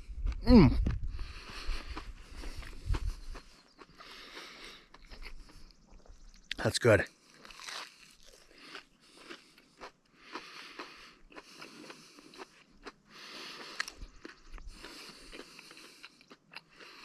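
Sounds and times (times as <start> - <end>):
chewing crunchy bread: 0.0 - 6.6, 7.2 - 17.0.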